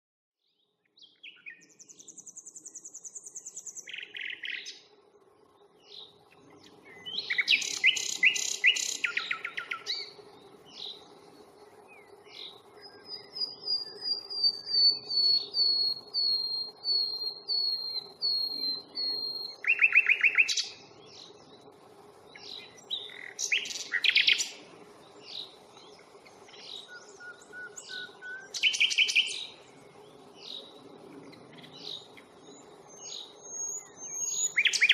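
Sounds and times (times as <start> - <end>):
nightingale singing: 0.6 - 4.9, 5.6 - 34.9.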